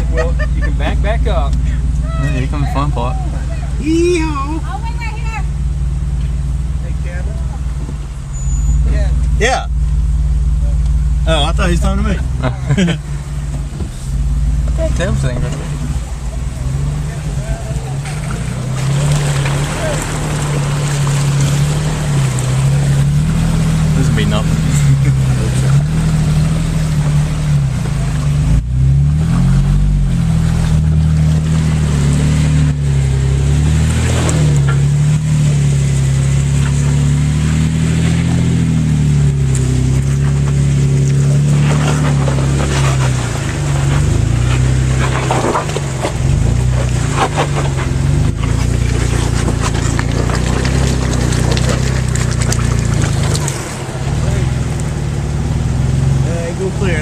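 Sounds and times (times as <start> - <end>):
engine running at low revs: 0.0 - 57.0.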